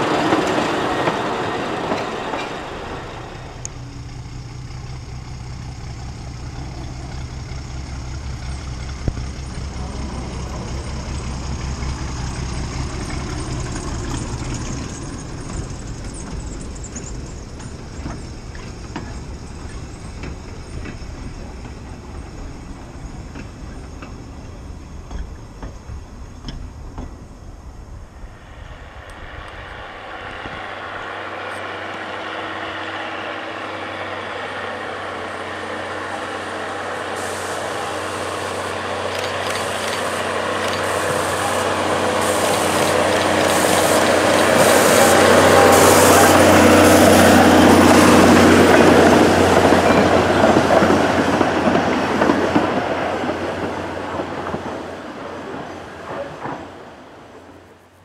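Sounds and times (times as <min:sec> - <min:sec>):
diesel locomotive engine: 0:00.0 - 0:58.0.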